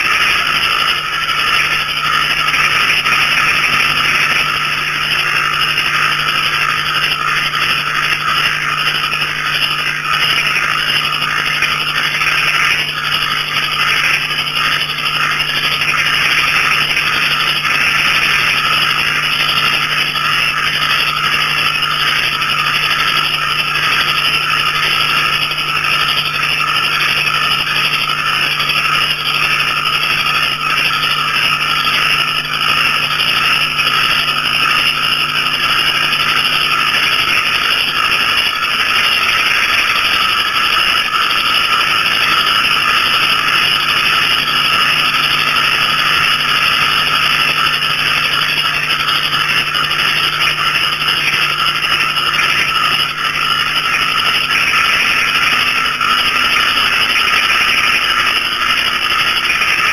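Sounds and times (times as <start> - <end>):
frogs calling: 0.0 - 59.9
low steady drone: 0.0 - 59.9.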